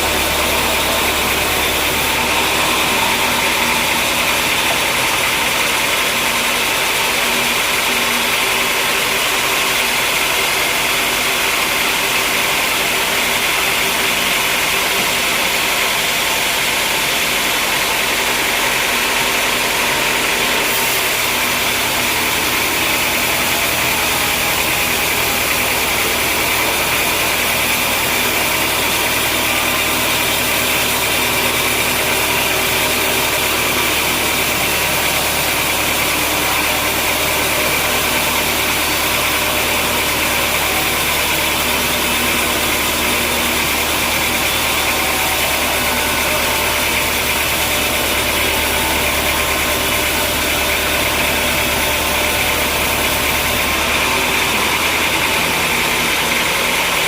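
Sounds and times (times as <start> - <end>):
deeper machine hum: 0.0 - 57.0
sawmill machinery with high whine: 0.0 - 57.0.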